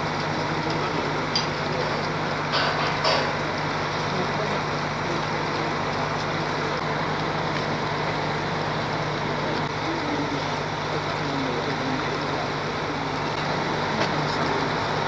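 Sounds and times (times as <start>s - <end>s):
heavy machinery engine humming: 0.0s - 15.0s.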